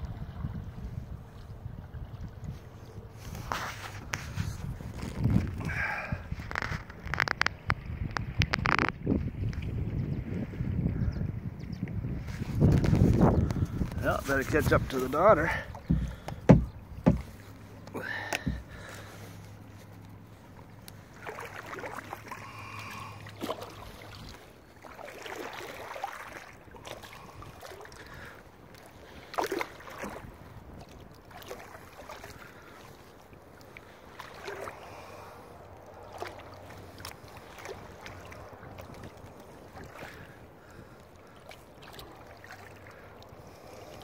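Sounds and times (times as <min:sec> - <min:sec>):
paddle splashing in water: 0:00.0 - 0:09.8, 0:12.2 - 0:44.0
water lapping at hull: 0:00.0 - 0:44.0.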